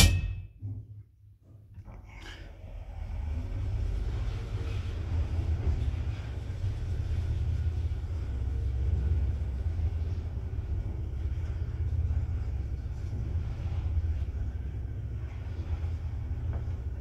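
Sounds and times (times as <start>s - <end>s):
lift car rumbling in shaft: 1.8s - 17.0s.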